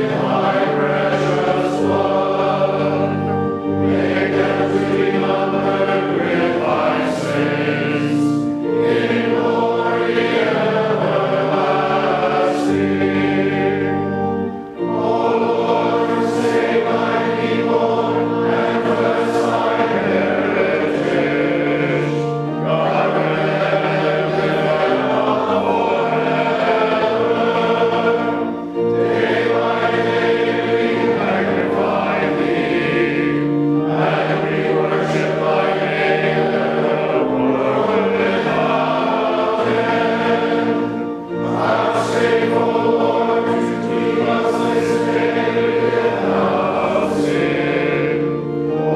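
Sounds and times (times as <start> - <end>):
choir singing church music: 0.0 - 48.9.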